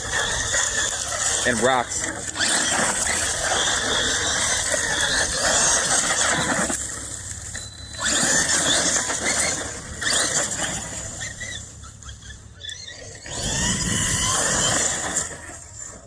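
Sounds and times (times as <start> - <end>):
electric motor whining: 0.0 - 16.0
tyres spinning on dirt: 0.0 - 16.0.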